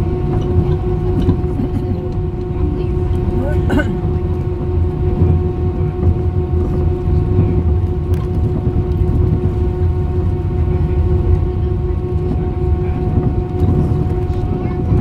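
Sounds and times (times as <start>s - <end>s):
aircraft engines low rumble: 0.0s - 15.0s.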